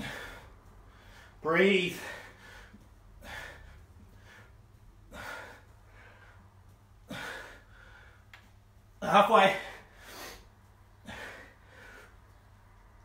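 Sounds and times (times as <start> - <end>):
man breathing hard: 0.0 - 8.4, 9.5 - 12.6.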